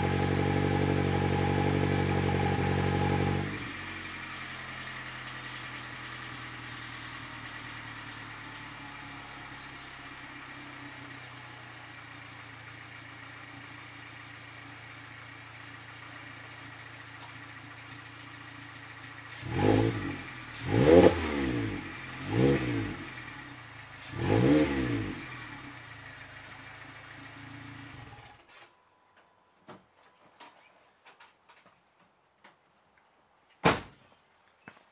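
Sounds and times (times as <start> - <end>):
car engine idling: 0.0 - 28.4.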